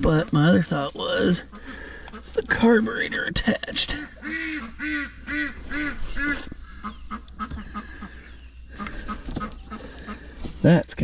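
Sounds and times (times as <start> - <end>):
ducks quacking: 0.0 - 10.8.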